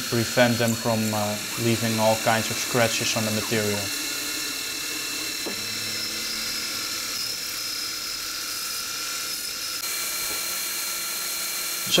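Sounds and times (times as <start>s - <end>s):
drill bit drilling into metal: 0.0s - 12.0s
mill spindle high whine: 0.0s - 12.0s.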